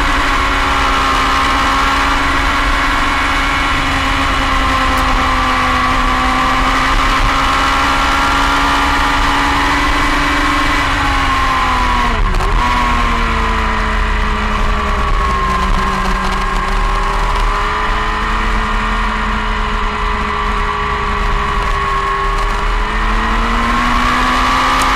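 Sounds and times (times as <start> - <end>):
motorcycle engine running hard: 0.0 - 24.9
wind rumbling on microphone: 0.0 - 24.9.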